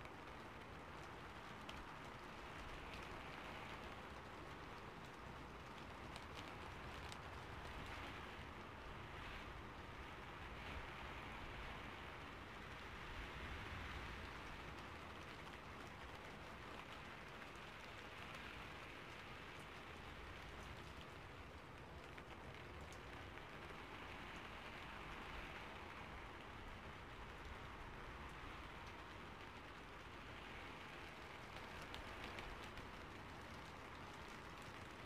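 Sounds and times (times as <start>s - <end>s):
raindrop ticks: 0.0s - 35.0s
steady rain: 0.0s - 35.0s.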